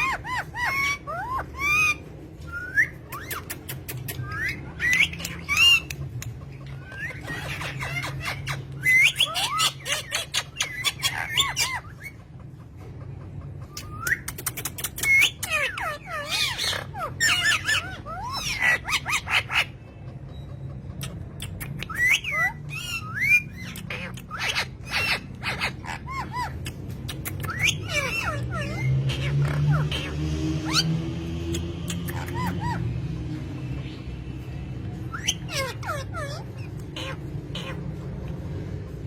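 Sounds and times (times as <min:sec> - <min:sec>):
bird chirping and squawking: 0:00.0 - 0:39.0.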